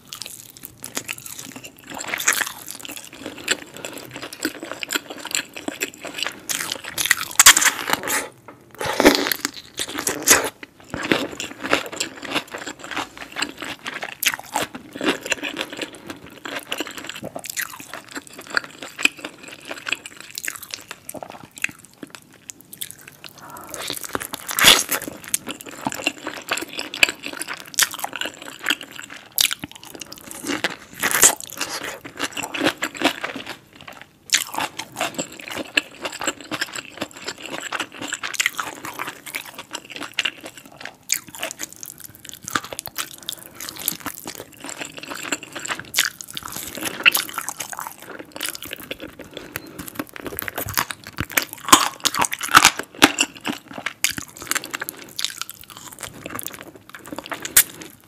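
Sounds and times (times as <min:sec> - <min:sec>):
biting and chewing crunches: 0:00.0 - 0:58.0.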